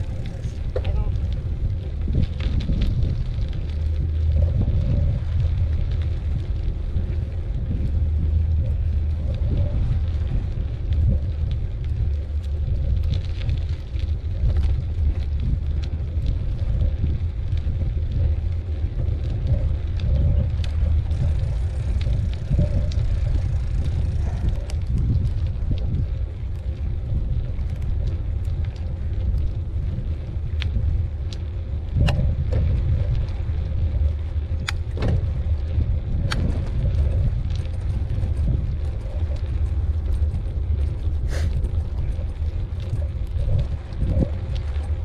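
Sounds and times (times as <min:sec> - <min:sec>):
bike clicks and rattles: 0:00.0 - 0:45.0
bike tyres rolling on dirt: 0:00.0 - 0:45.0
wind on microphone: 0:00.0 - 0:45.0.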